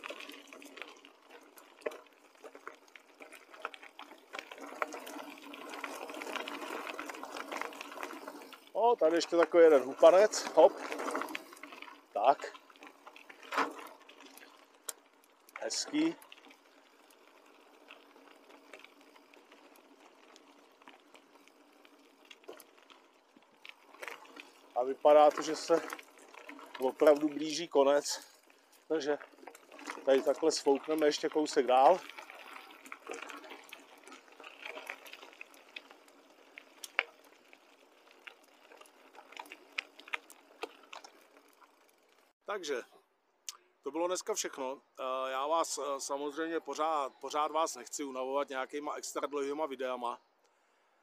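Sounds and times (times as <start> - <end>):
mountain bike rolling on dirt: 0.0 - 42.8, 44.0 - 50.2.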